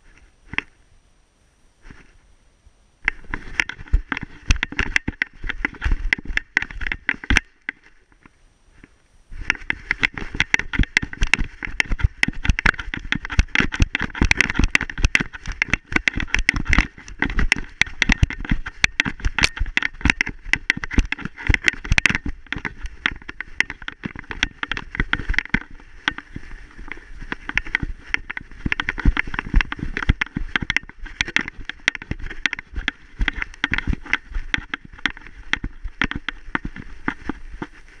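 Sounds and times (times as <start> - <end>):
paws thumping and crunching snow: 3.1 - 38.0.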